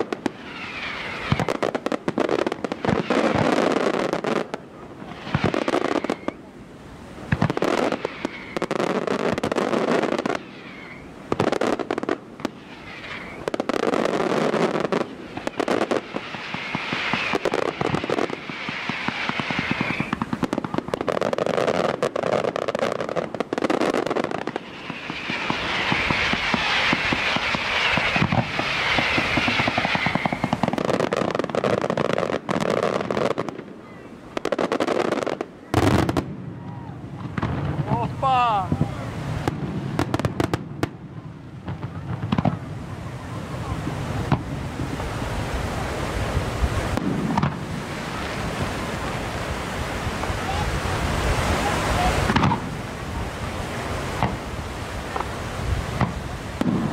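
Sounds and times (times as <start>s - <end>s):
firework shells bursting with crackling: 0.0s - 6.5s, 7.2s - 42.9s, 43.5s - 56.9s.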